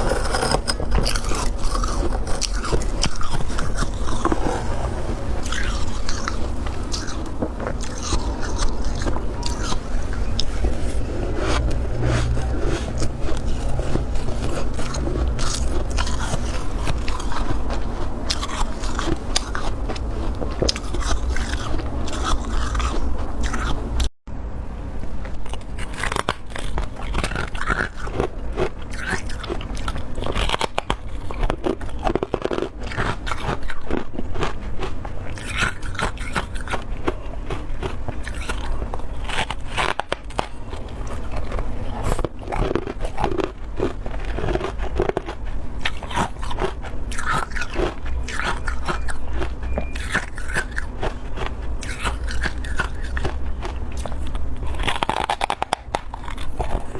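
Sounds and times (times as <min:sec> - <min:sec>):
chewing crunchy frost: 0:00.0 - 0:24.1, 0:25.2 - 0:56.9.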